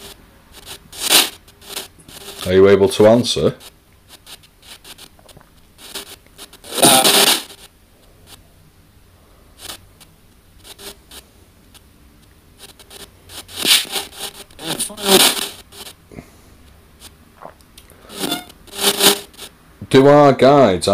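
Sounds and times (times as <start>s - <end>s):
radio sweep clicks and static: 0.0s - 8.4s, 9.6s - 16.0s, 17.0s - 19.6s
voice-like fragment in static: 0.0s - 8.5s, 9.2s - 16.2s, 16.8s - 20.9s.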